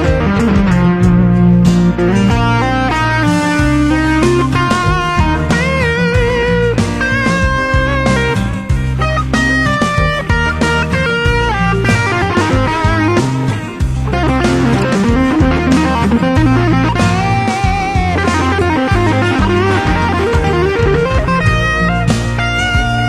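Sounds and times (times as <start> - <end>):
bass line: 0.0 - 23.0
overdriven electric guitar lead: 0.0 - 23.0.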